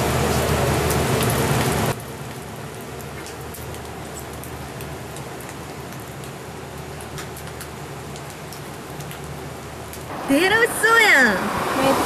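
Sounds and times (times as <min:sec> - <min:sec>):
coals crackling and popping: 0:00.0 - 0:11.7
eel sizzling on charcoal grill: 0:00.0 - 0:11.8.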